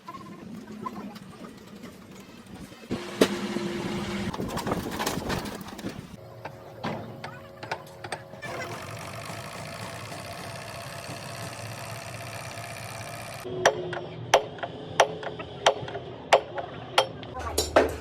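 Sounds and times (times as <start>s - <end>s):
steady mechanical noise: 0.0s - 17.3s.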